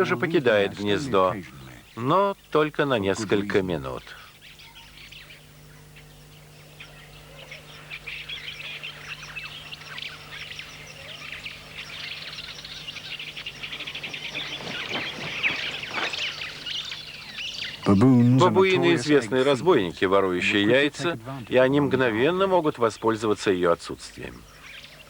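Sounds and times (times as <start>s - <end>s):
faint low hum: 0.0s - 25.0s
small birds chirping: 0.0s - 25.0s.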